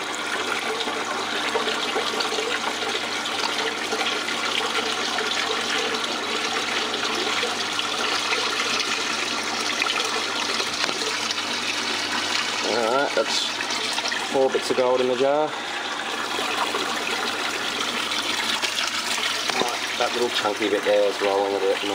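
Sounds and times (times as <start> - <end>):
water running down a drain: 0.0 - 21.9.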